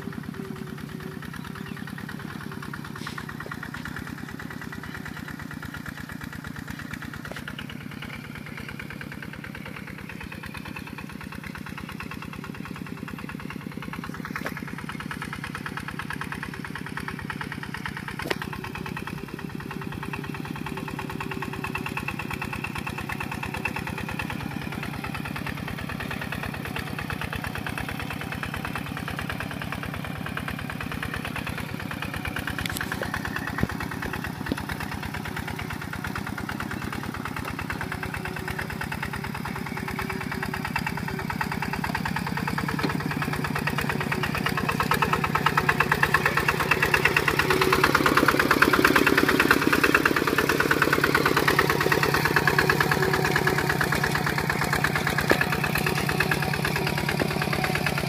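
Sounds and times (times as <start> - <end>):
diesel tractor engine chugging: 0.0 - 58.0.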